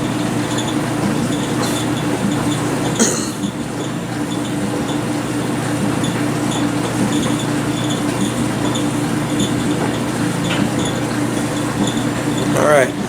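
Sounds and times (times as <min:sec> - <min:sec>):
clothes dryer humming: 0:00.0 - 0:13.0.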